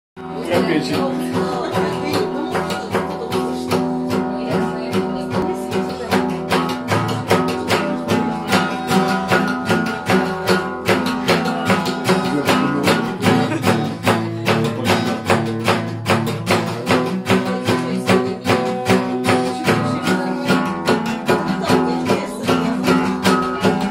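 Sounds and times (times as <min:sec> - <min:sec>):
acoustic guitar strummed: 0:00.2 - 0:23.9.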